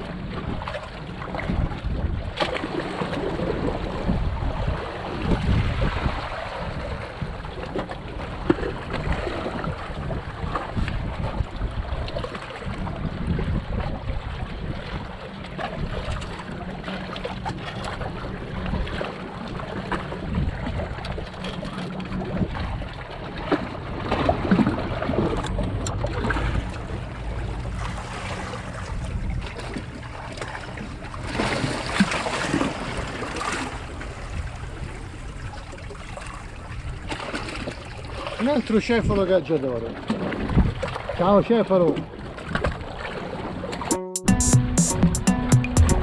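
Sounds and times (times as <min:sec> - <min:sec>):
sea water lapping: 0:00.2 - 0:38.4.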